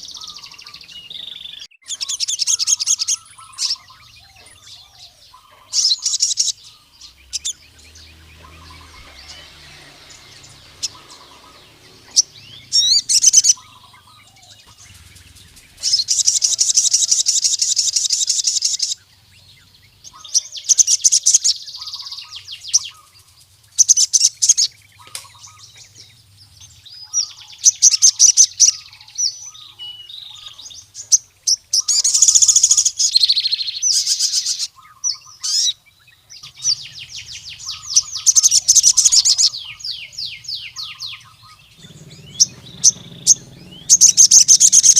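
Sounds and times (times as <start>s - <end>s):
bird singing high trills: 0.0s - 44.9s.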